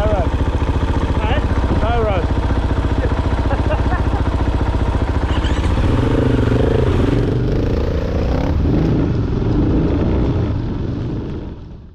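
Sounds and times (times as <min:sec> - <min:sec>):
dirt bike engine running: 0:00.0 - 0:11.9.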